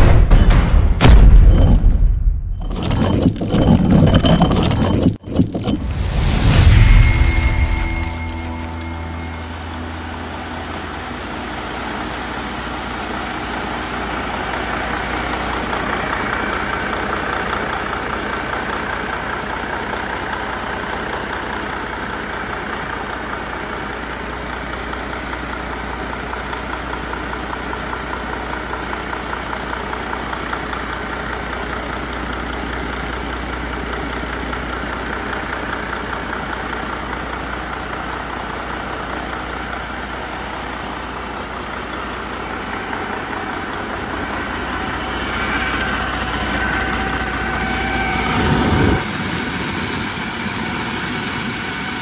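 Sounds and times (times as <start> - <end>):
diesel engine idling: 8.6 - 52.0.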